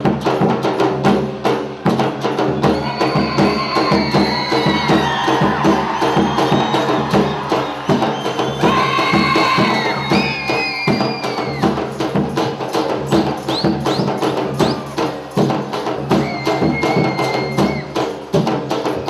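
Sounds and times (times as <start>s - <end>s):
drums and percussion beat: 0.0s - 19.0s.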